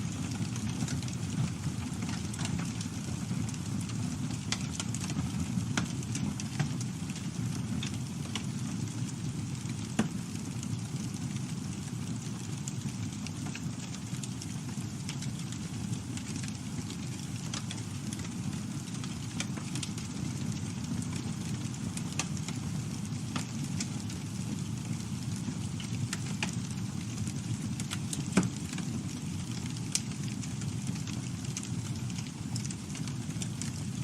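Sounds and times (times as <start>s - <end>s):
crackles and snaps of burning wood: 0.0s - 34.0s
low rumble of campfire flames: 0.0s - 34.0s.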